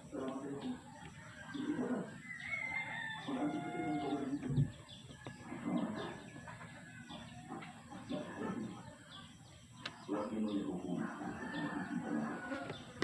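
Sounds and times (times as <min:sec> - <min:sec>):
chickens calling: 0:00.0 - 0:13.0
small birds chirping: 0:00.0 - 0:13.0.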